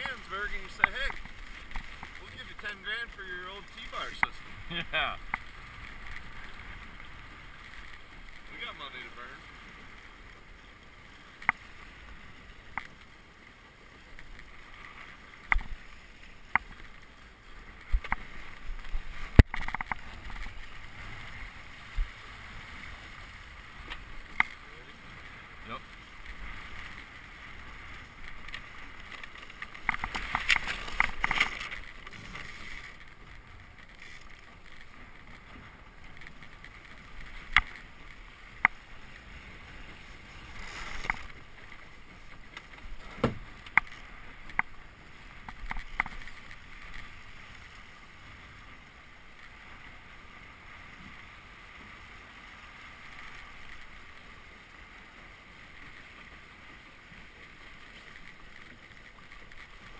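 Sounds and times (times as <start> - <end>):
boat lines and fittings clicking: 0.0 - 59.9
water rushing along hull: 0.0 - 59.9.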